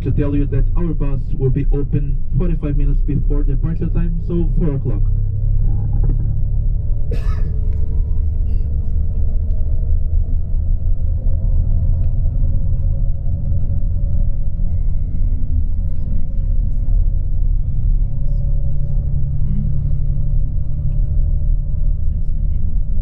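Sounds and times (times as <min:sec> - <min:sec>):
faint steady whine: 0:00.0 - 0:22.9
coach engine and tyres rumbling: 0:00.0 - 0:23.0.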